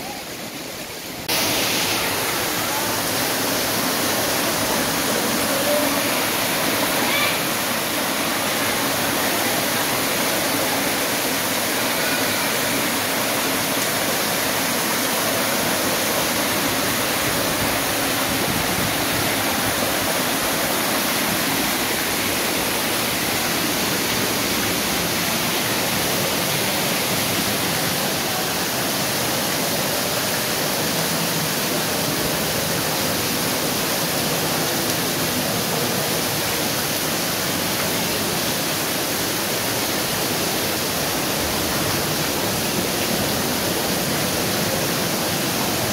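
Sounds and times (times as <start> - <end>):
water running down rock walls: 0.0 - 45.9
waterfall rushing: 0.0 - 45.9.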